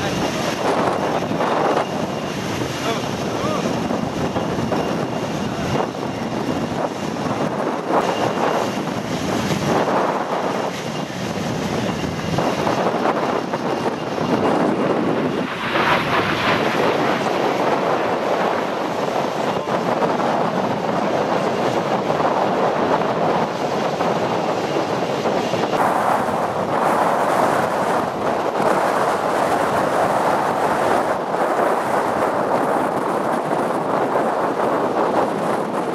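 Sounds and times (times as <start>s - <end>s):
jet engine roar: 0.0s - 35.9s
wind on microphone: 0.0s - 35.9s.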